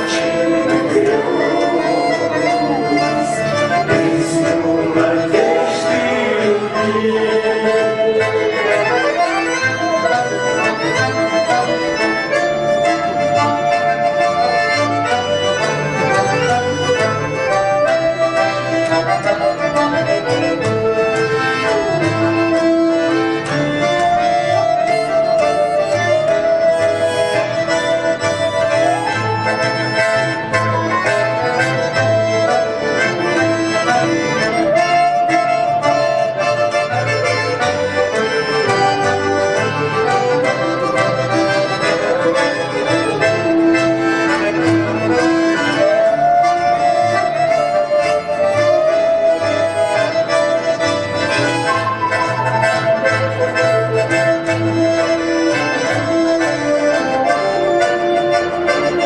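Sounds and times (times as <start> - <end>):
accordion melody: 0.0 - 59.0.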